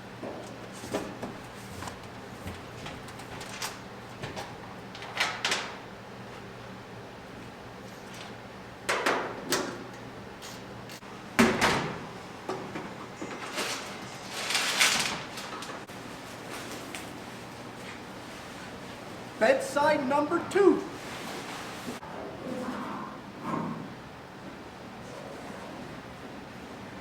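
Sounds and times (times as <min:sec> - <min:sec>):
low shop hum: 0:00.0 - 0:27.0.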